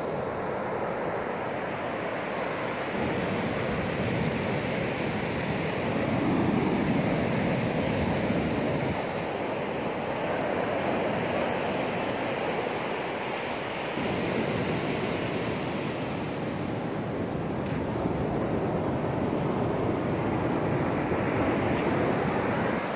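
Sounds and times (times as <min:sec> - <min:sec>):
ocean surf on sandy beach: 0:00.0 - 0:22.9.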